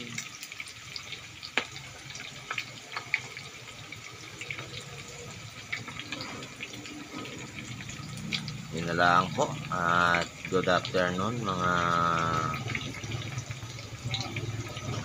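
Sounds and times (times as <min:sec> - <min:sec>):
meat sizzling in hot oil: 0:00.0 - 0:15.0
oil crackling and popping: 0:00.0 - 0:15.0.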